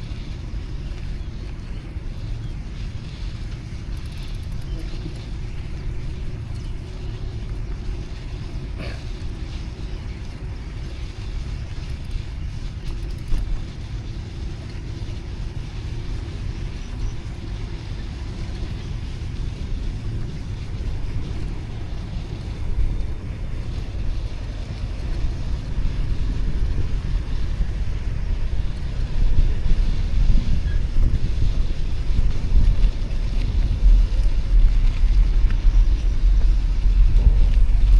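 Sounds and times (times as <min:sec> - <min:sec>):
street traffic: 0:00.0 - 0:37.9
wind on microphone: 0:00.0 - 0:37.9.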